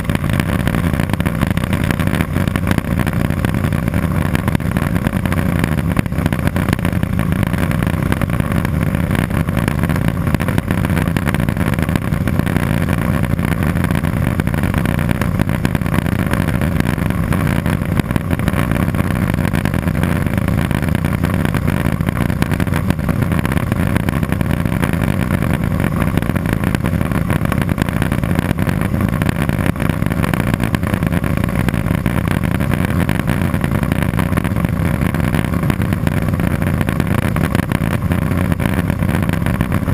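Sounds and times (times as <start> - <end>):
turbine propeller engine drone: 0.0 - 39.9.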